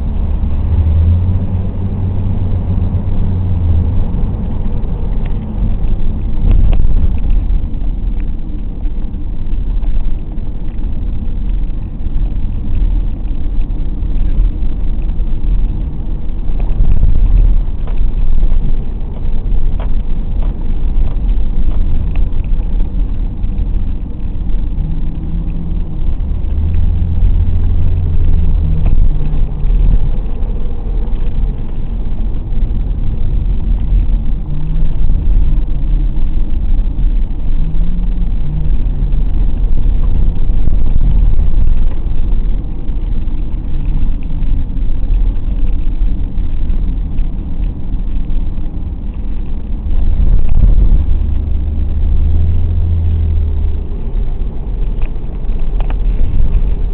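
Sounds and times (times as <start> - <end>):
car engine and tyre noise: 0.0 - 56.9.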